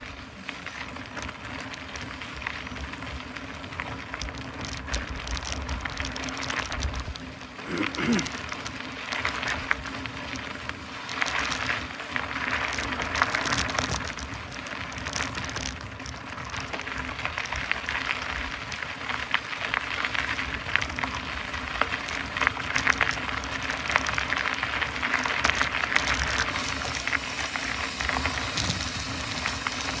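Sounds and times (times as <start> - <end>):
bike clicks and rattles: 0.0 - 30.0
tyres crunching on gravel: 0.9 - 30.0.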